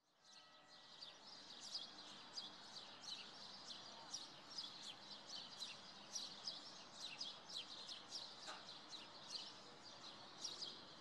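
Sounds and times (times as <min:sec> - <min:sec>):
flock of small birds chirping: 0:00.2 - 0:11.0.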